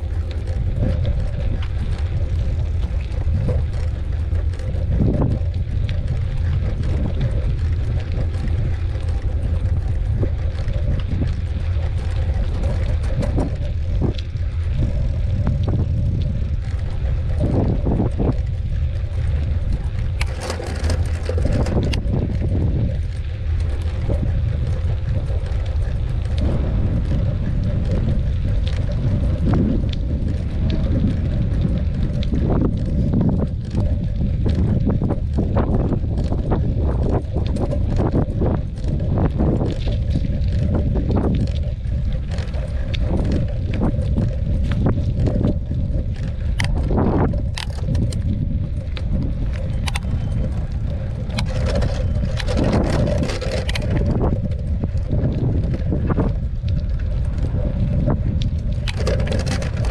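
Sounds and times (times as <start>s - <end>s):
bike rattling on dirt trail: 0.0s - 59.9s
wind buffeting microphone: 0.0s - 59.9s.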